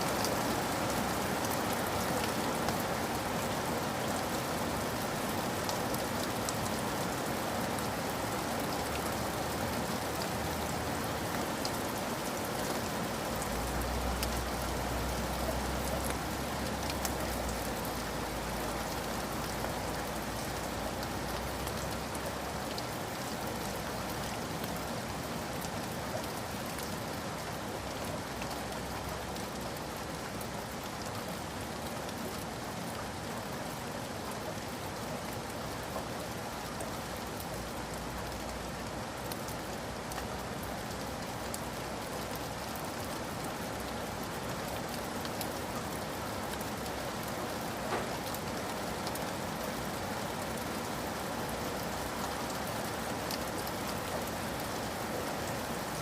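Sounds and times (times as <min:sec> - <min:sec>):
raindrops ticking on surfaces: 0:00.0 - 0:56.0
steady rain falling: 0:00.0 - 0:56.0.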